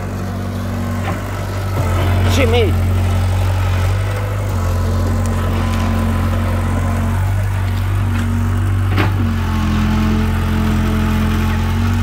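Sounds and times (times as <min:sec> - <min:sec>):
excavator diesel engine humming: 0:00.0 - 0:12.0.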